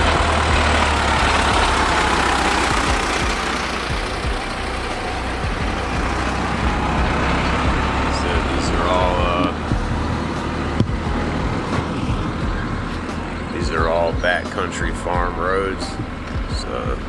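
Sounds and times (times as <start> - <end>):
road noise rushing: 0.0 - 17.0
van engine humming: 0.0 - 17.0.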